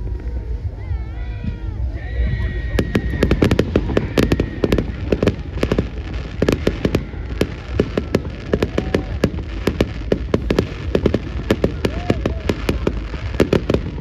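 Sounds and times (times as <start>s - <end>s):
firecrackers popping: 0.0s - 14.0s
steady low rumble: 0.0s - 14.0s.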